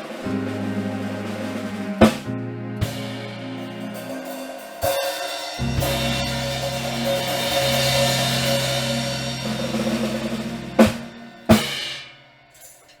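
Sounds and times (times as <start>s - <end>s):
live band held chord: 0.0s - 12.1s
drum and cymbal hits: 0.0s - 12.8s.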